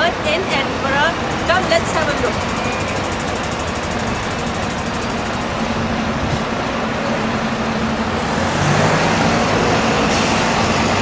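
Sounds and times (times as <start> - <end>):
passing vehicles rushing: 0.0 - 11.0.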